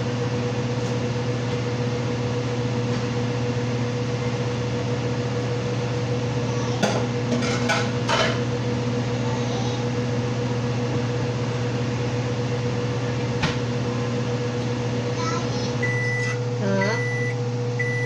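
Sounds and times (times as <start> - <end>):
appliance motor hum: 0.0 - 18.0.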